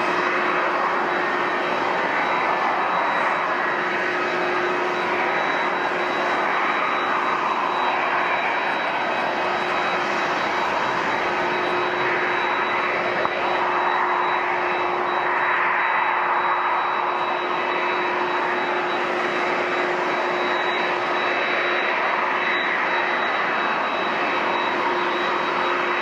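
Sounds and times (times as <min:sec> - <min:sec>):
high-pitched engine whine: 0:00.0 - 0:26.0
jet engines roaring: 0:00.0 - 0:26.0.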